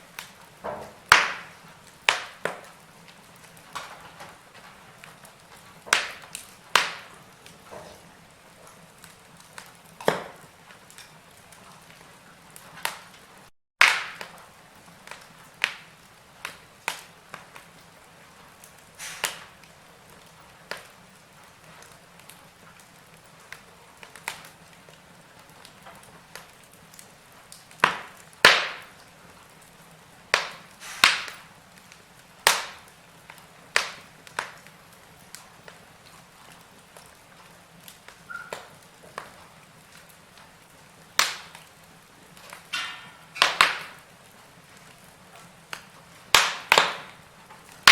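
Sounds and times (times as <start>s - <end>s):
faint steady hiss: 0.0s - 47.9s
wood fire crackling: 0.0s - 47.9s.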